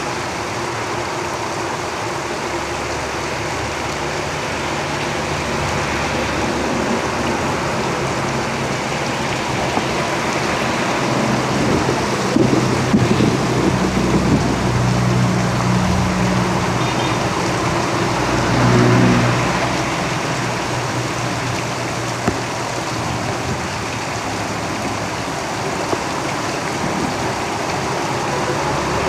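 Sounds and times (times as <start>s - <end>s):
heavy rain on a roof: 0.0s - 29.0s
vehicle engine hum passing: 2.0s - 29.0s.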